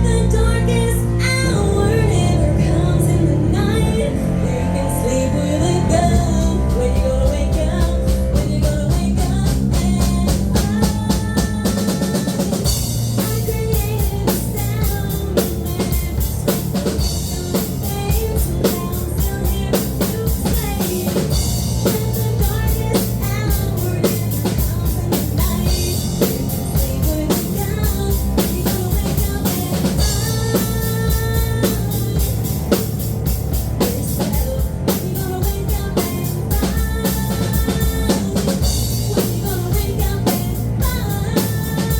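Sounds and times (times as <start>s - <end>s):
live rock band playing: 0.0s - 41.9s
sustained bass notes: 0.0s - 41.9s
bass drum and snare beat: 6.1s - 41.9s.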